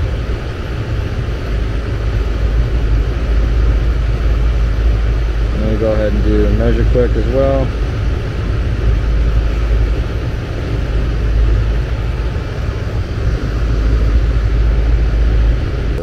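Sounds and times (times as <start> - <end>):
compressor humming: 0.0 - 16.0
condenser fan blowing air: 0.0 - 16.0.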